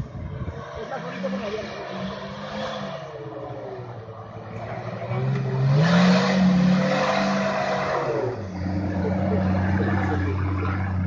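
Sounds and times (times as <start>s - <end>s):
engine revving: 0.0s - 11.0s
wheels churning mud: 0.6s - 11.0s.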